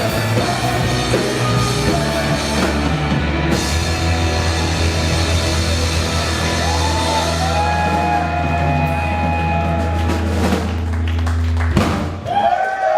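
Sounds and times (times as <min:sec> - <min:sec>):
live rock band: 0:00.0 - 0:12.5.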